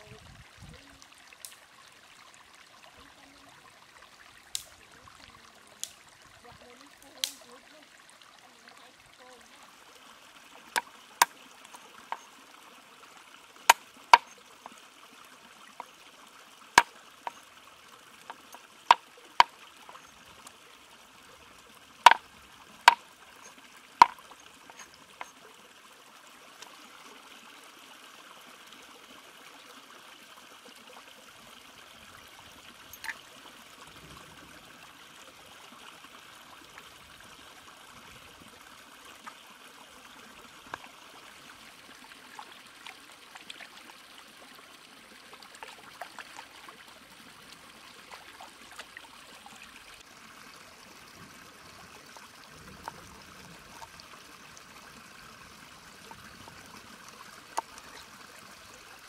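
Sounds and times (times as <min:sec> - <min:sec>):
stream water running: 0:00.0 - 0:59.0.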